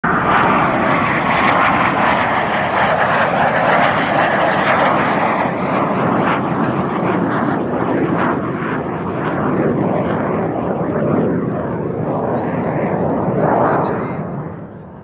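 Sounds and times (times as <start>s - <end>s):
jet flying past overhead: 0.0s - 15.0s.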